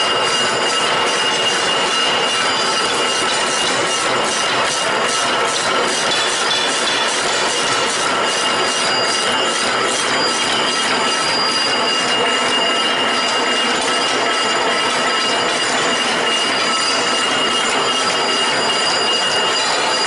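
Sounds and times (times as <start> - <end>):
machine high whine: 0.0 - 20.0
machine metallic clatter: 0.0 - 20.0.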